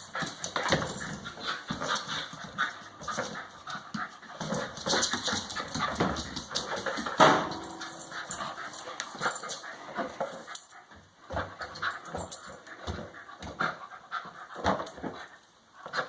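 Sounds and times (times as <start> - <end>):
dog panting: 0.0 - 7.2, 7.8 - 16.0.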